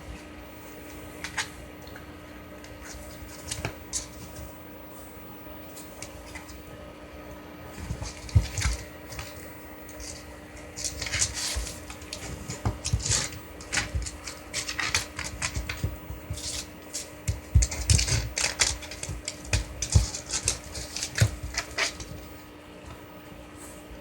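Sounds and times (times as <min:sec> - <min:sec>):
cats scuffling and thumping: 0:02.6 - 0:06.7, 0:07.6 - 0:23.1.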